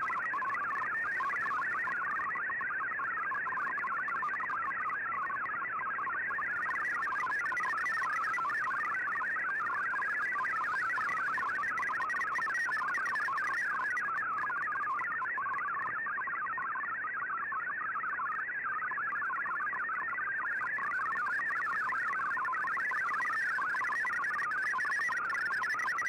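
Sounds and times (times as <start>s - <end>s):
warbling digital data tones: 0.0s - 16.7s, 18.8s - 26.0s.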